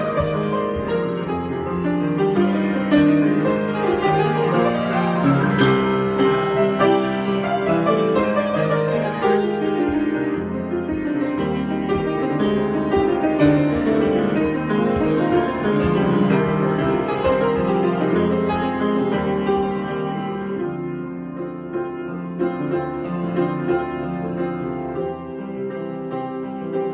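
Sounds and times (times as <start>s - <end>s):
improvised piano playing: 0.0s - 26.9s.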